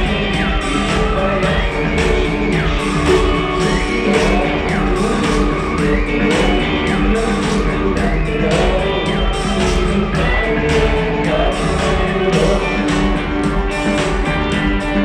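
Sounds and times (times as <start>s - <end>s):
rock band playing: 0.0s - 15.0s
sliding high melody line: 0.0s - 15.0s.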